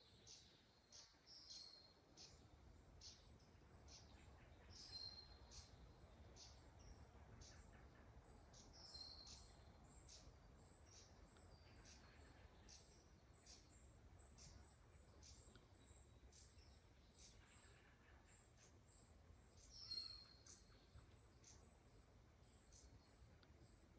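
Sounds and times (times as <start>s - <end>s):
faint high-pitched bird chirps: 0.0s - 23.9s.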